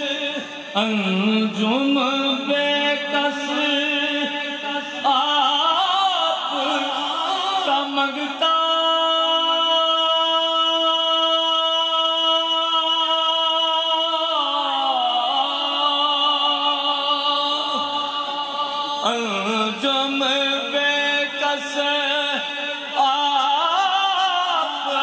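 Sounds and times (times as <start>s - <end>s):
man singing devotional song: 0.0s - 25.0s.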